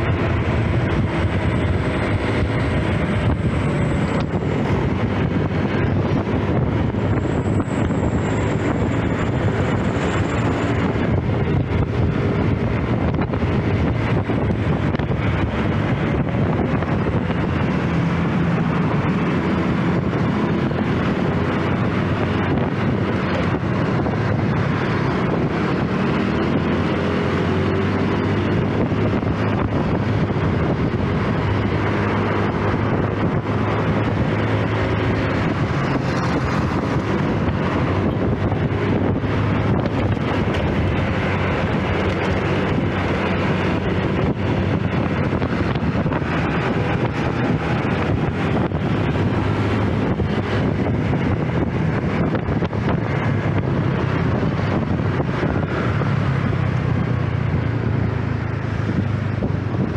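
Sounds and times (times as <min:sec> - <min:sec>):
road noise: 0:00.0 - 0:59.9
scooter engine cruising: 0:00.0 - 0:59.9
wind rushing over microphone: 0:00.0 - 0:59.9.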